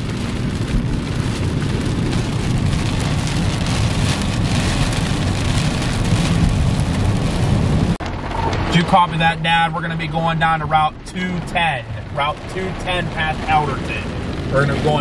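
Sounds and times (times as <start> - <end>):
car rumbling on road: 0.0 - 15.0
heavy rain on a car: 0.0 - 15.0.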